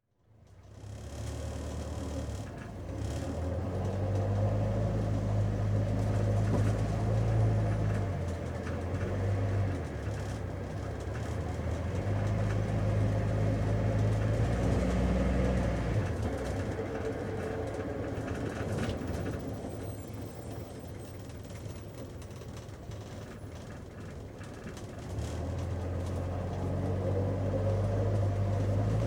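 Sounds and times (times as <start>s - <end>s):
road noise: 0.2s - 29.0s.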